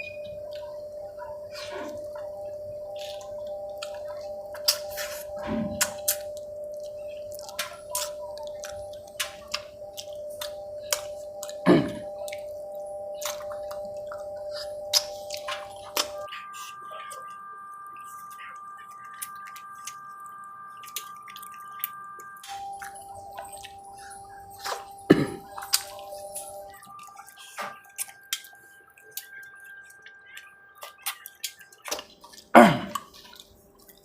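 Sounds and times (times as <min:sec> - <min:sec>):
faint steady hum: 0:00.0 - 0:34.0
mouth chewing and lip smacks: 0:01.6 - 0:17.3, 0:20.8 - 0:34.0.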